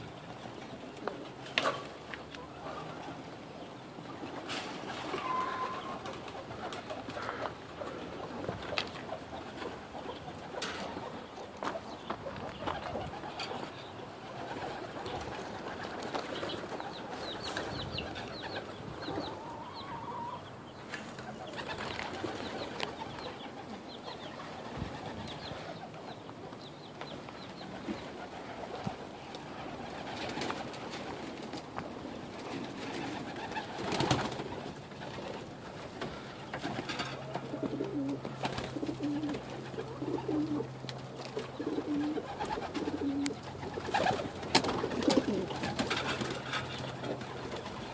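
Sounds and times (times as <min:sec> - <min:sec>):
pigeons cooing: 0:00.0 - 0:26.6, 0:27.5 - 0:47.9.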